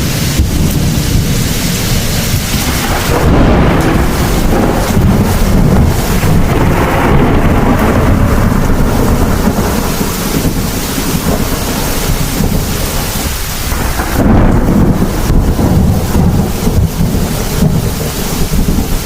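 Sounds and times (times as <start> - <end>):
heavy rain: 0.0 - 19.0
thunder rumbling: 0.0 - 19.0.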